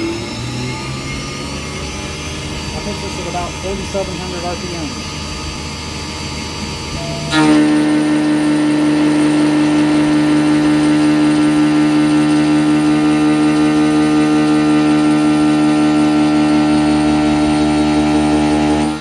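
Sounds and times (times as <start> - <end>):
milling machine cutting steel whine: 0.0 - 19.0.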